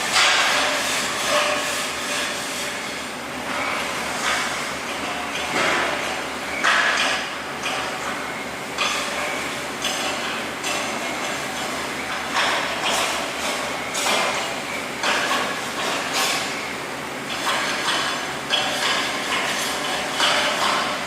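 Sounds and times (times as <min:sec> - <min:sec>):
industrial workshop noise: 0:00.0 - 0:21.0.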